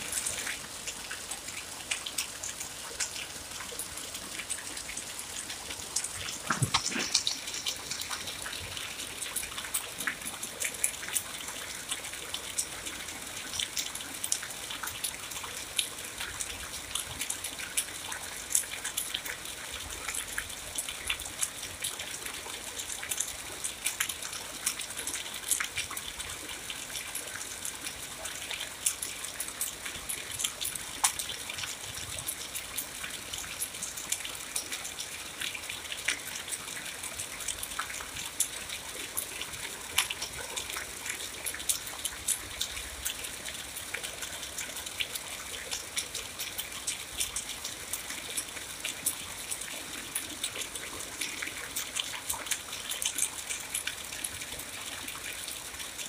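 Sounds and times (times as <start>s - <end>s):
steady rain with drop hits: 0.0s - 56.0s.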